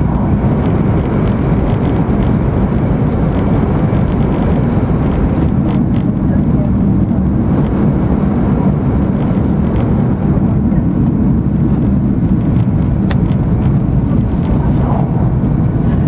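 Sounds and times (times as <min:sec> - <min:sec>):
train cabin low rumble: 0:00.0 - 0:16.0.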